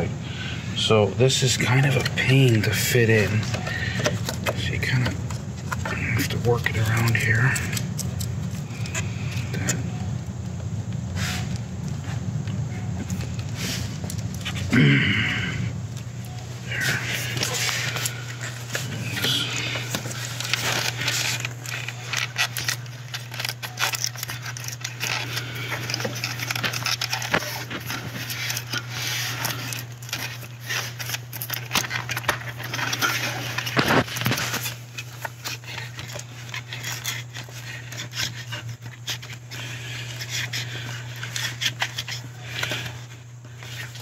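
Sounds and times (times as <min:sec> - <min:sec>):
low steady hum: 0:00.0 - 0:44.0
rubber hose rubbing and scraping: 0:01.6 - 0:10.1, 0:11.1 - 0:15.4, 0:16.0 - 0:44.0.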